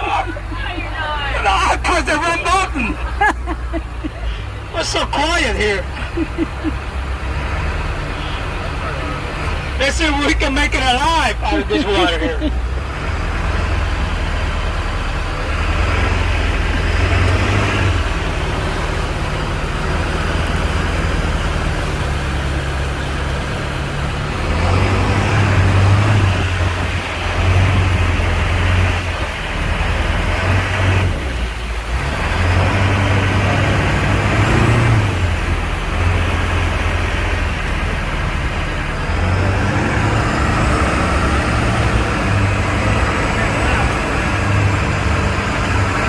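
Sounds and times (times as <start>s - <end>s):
truck engine running under load: 0.0s - 46.0s.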